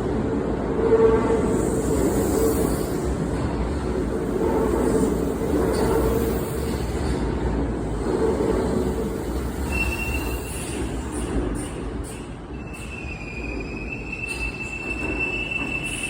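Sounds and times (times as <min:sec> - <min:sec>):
train rumbling: 0:00.0 - 0:16.0
train wheels squealing on rails: 0:00.9 - 0:16.0.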